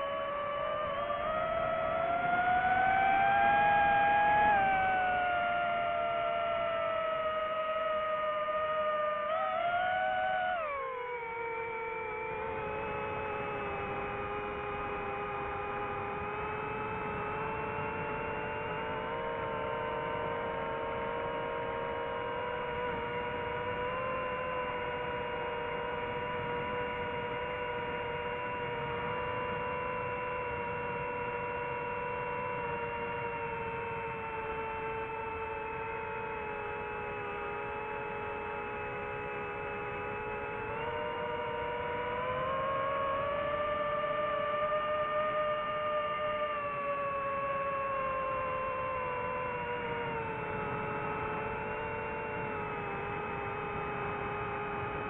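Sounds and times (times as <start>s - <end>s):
quadcopter propellers whining: 0.0s - 11.0s, 11.6s - 55.0s.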